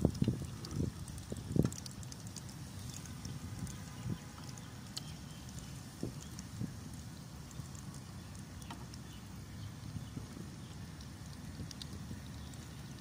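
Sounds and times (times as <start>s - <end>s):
low steady rumble: 0.0s - 13.0s
oil sizzling and popping: 0.0s - 13.0s.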